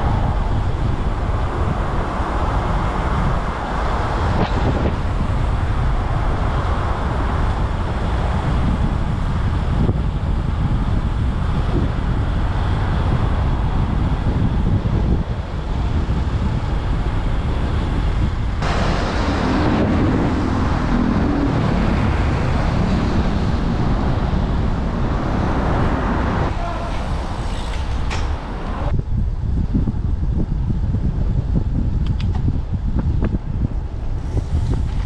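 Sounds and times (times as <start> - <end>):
road traffic noise: 0.0 - 35.0
wind rumbling on microphone: 0.0 - 35.0.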